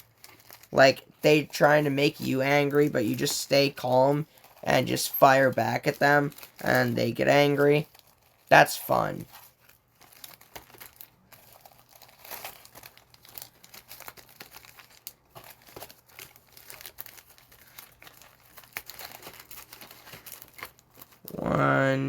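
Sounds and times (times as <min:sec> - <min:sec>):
plastic wrapper crinkling and tearing: 0:00.0 - 0:21.4.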